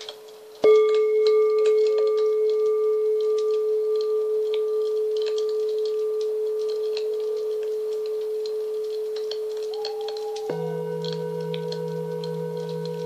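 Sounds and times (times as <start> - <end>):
campfire crackling: 0.0 - 13.0
singing bowl ringing: 0.6 - 13.0
deeper singing bowl struck: 1.0 - 13.0.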